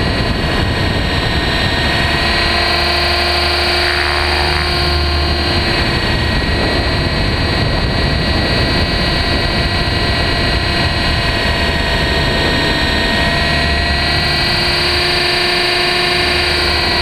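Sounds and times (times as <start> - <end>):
rc helicopter motor whine: 0.0 - 17.0
rotor wash rumble: 0.0 - 17.0.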